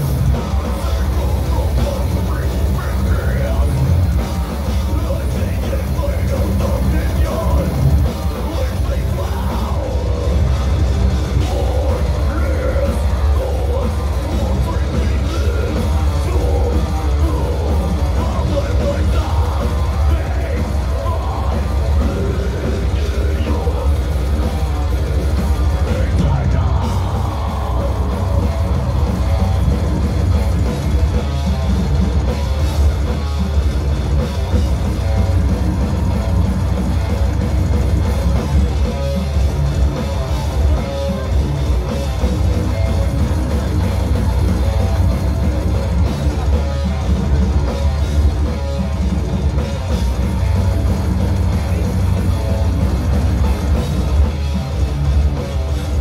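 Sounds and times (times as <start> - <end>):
distorted guitars: 0.0 - 56.0
fast drums: 0.0 - 56.0.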